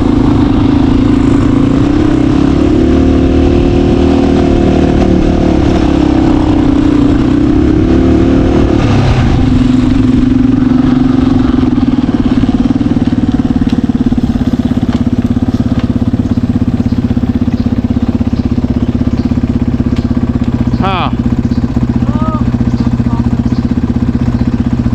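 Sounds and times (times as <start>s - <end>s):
off-road vehicle engine running: 0.0s - 24.9s.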